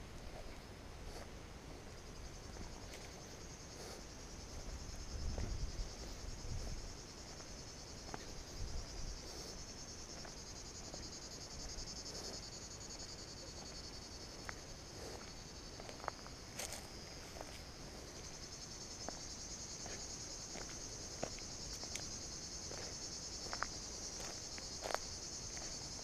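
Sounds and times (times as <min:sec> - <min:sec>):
insect chorus buzzing trill: 0:00.0 - 0:26.0.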